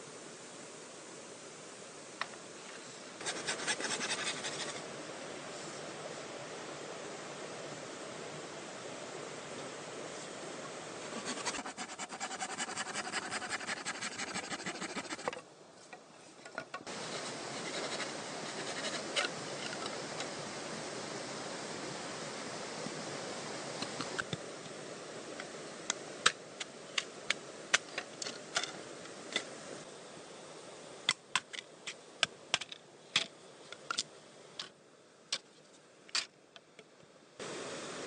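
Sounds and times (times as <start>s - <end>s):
forest background hiss: 0.0s - 38.0s.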